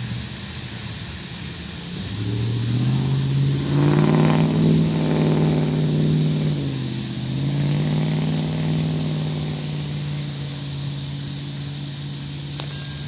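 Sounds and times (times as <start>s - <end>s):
diesel locomotive engine drone: 0.0s - 13.0s
steady hiss: 0.0s - 13.0s.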